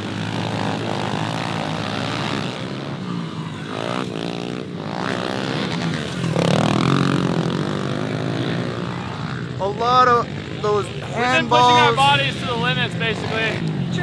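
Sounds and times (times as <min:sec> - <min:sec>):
pit bike engines revving: 0:00.0 - 0:14.0.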